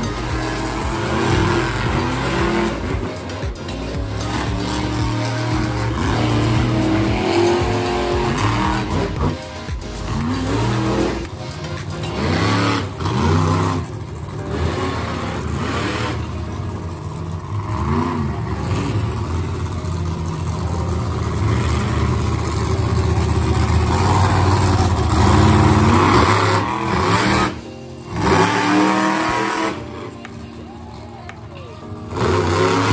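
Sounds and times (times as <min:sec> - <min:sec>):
monster truck engines revving: 0:00.0 - 0:32.9.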